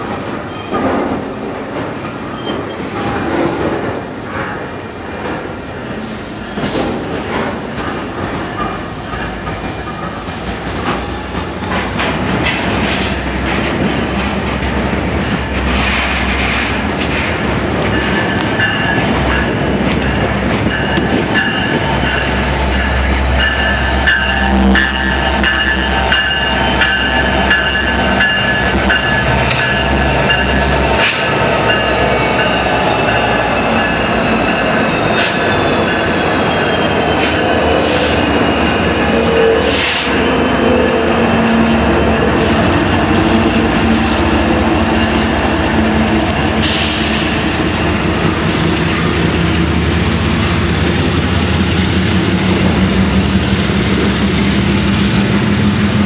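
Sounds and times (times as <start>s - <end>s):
diesel locomotives passing: 0.0s - 56.0s.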